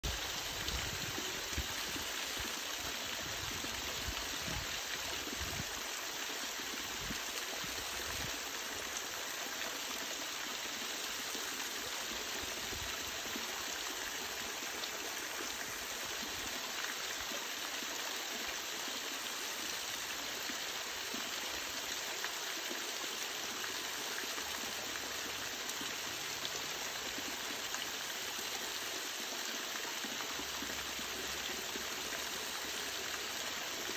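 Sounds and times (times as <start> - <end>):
small waterfall splashing on stones: 0.0 - 33.9.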